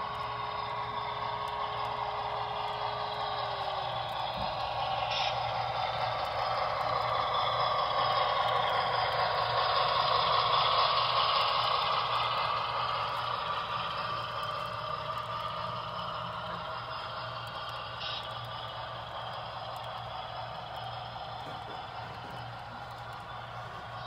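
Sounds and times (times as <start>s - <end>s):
model train running on track: 0.0s - 24.0s
steady low hum: 0.0s - 24.0s.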